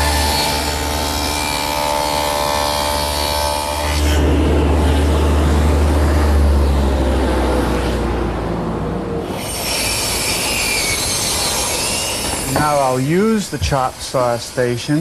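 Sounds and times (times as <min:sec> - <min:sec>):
table saw cutting plywood: 0:00.0 - 0:08.3, 0:09.2 - 0:15.0.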